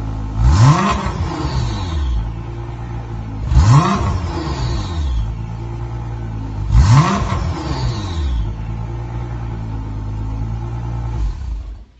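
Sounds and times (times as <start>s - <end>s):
car engine idling: 0.0s - 11.9s
engine revving: 0.0s - 11.9s.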